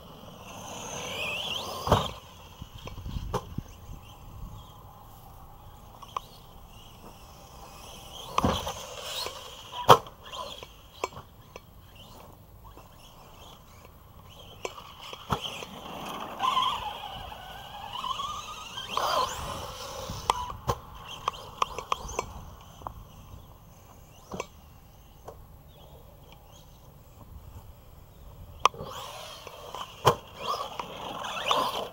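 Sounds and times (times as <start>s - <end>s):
electric motor whining: 0.0s - 31.9s.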